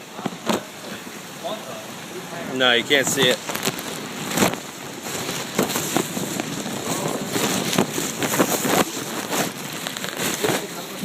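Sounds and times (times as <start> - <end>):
rain and wind rushing: 0.0 - 11.0
raindrops striking microphone: 0.0 - 11.0.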